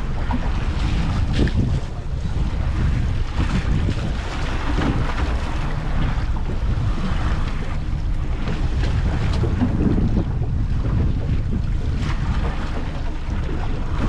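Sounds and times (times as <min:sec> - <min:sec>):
boat rumble: 0:00.0 - 0:14.0
waves washing: 0:00.0 - 0:14.0
wind buffeting microphone: 0:00.0 - 0:14.0.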